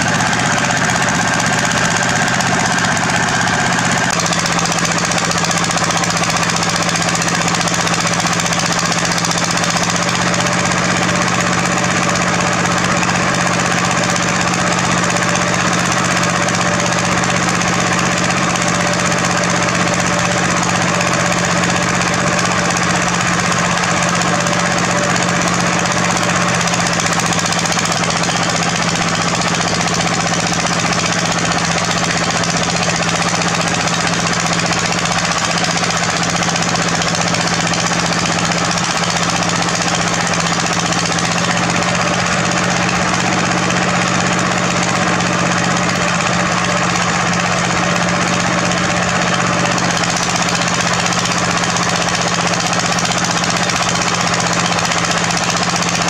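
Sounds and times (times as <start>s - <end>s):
loud diesel engine clattering: 0.0s - 56.0s.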